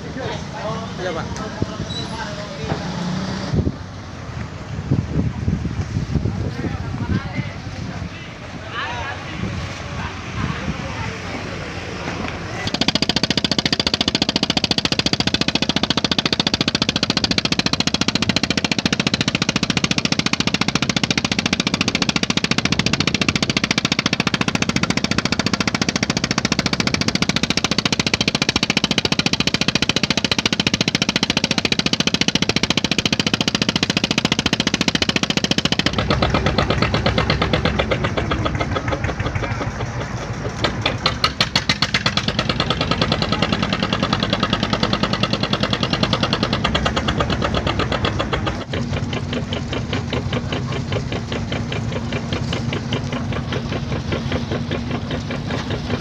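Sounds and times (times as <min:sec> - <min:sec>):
boat diesel engine putt-putt: 0:00.0 - 0:56.0.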